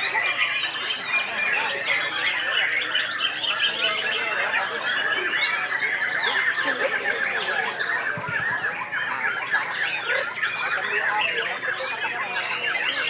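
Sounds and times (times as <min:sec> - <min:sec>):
birds singing chirps and trills: 0:00.0 - 0:13.0.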